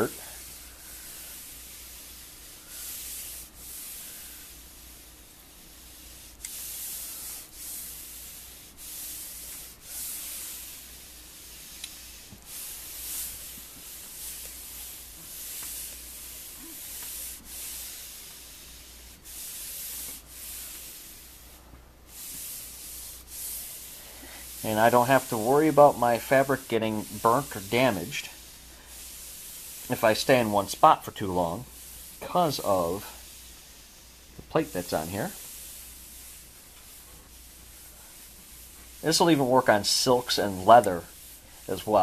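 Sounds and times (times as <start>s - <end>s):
iron rubbing hiss on fabric: 0.0s - 42.0s.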